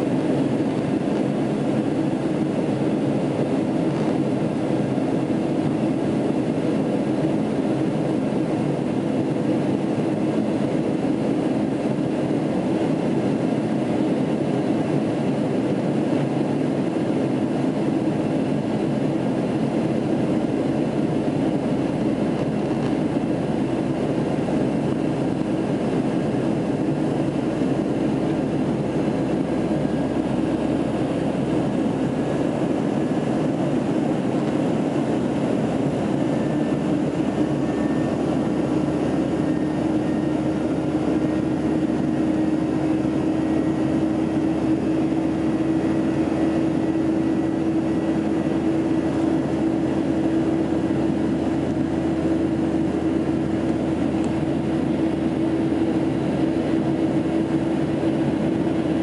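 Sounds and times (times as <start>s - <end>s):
airflow over fuselage: 0.0s - 59.0s
jet engines droning in cabin: 0.0s - 59.0s.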